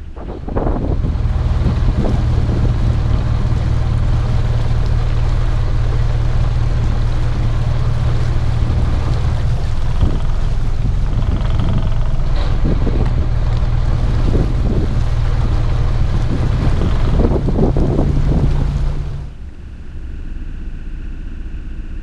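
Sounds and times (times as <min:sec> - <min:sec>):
wind rushing over microphone: 0:00.0 - 0:19.4
motorboat engine running: 0:00.0 - 0:22.0.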